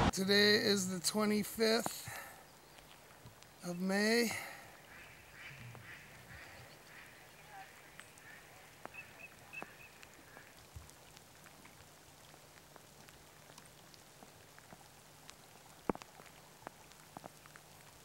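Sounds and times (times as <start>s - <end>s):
light rain pattering: 0.0s - 18.0s.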